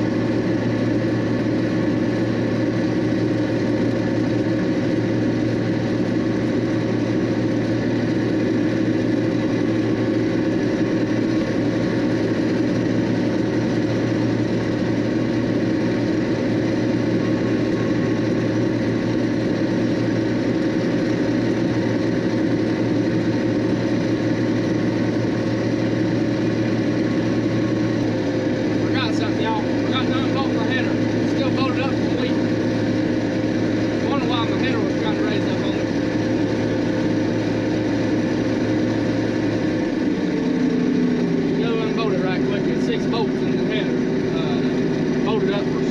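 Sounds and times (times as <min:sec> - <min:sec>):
combine engine and machinery drone: 0:00.0 - 0:45.9.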